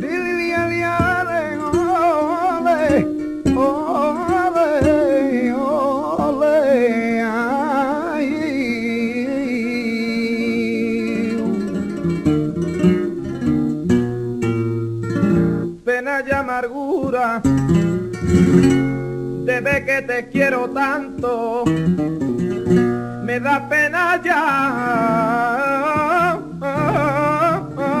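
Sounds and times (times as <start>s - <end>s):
flamenco singing: 0.0s - 28.0s
guitar strumming: 0.0s - 28.0s.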